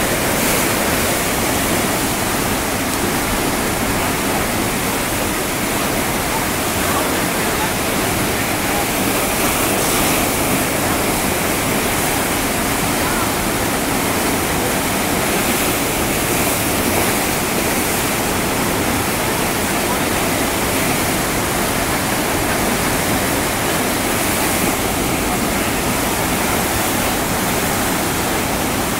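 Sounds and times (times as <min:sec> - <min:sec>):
whitewater rushing and churning: 0:00.0 - 0:28.9.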